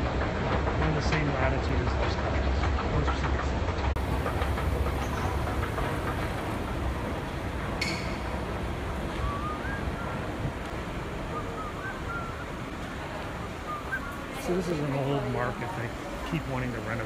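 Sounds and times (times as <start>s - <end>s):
escalator rumble: 0.0s - 17.0s.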